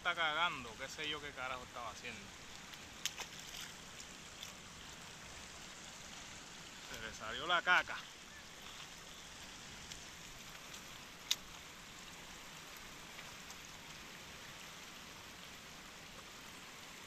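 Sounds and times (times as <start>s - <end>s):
river running over stones: 0.0s - 17.0s.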